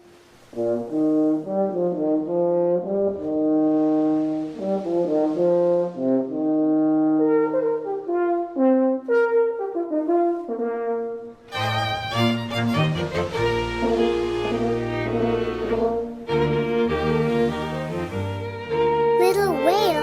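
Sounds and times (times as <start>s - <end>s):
brass instruments melody: 0.6s - 18.2s.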